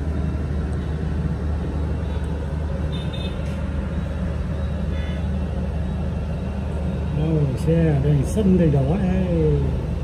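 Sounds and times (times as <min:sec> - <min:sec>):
cars: 0:00.0 - 0:10.0.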